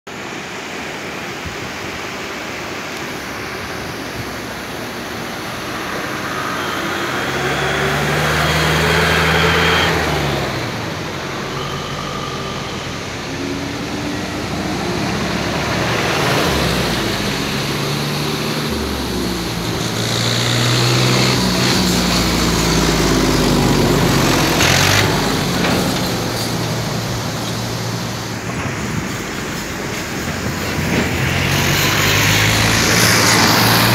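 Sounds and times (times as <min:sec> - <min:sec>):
river rushing: 0:00.1 - 0:33.9
vehicles driving past: 0:02.0 - 0:33.9.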